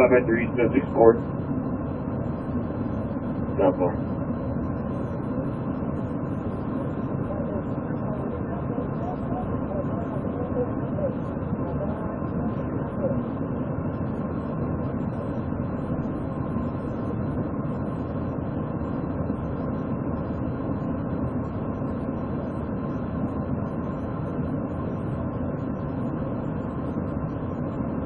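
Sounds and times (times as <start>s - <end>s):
steady low rumbling: 0.0s - 28.0s.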